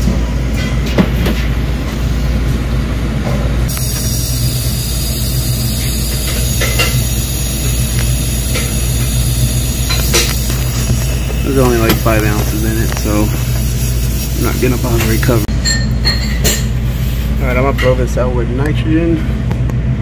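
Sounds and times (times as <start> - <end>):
low mechanical hum and rumble: 0.0 - 20.0.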